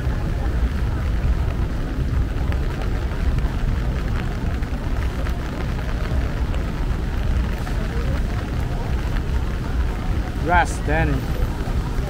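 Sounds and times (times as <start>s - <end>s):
low traffic rumble: 0.0s - 12.0s
rain hiss: 0.0s - 12.0s
tyres on wet pavement: 0.0s - 12.0s.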